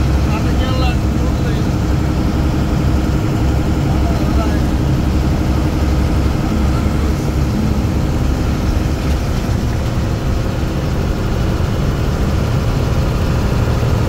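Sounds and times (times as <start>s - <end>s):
engine and road rumble: 0.0s - 14.0s.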